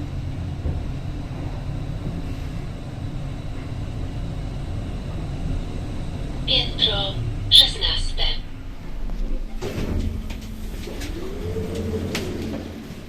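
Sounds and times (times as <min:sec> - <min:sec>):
lift car rumble and hum: 0:00.0 - 0:13.0.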